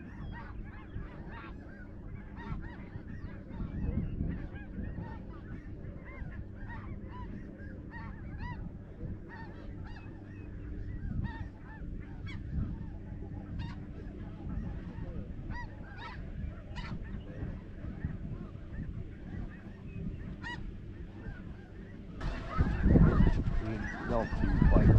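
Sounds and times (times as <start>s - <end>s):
geese honking: 0.0s - 24.9s
steady low rumble: 0.0s - 24.9s.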